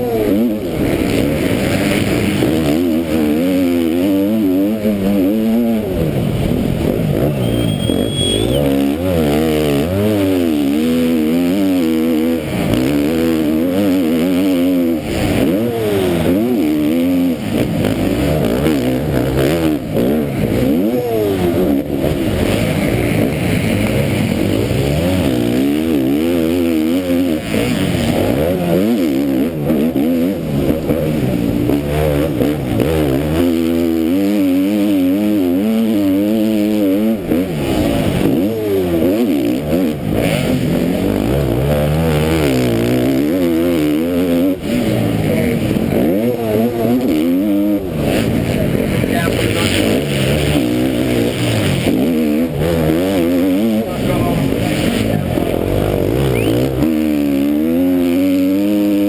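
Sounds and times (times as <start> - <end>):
motocross bike engine racing: 0.0 - 59.0.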